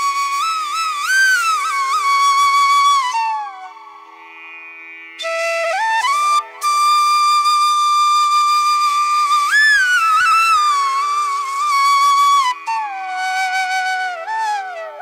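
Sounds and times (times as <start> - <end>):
flute melody with sliding notes: 0.0 - 4.0, 5.2 - 15.0.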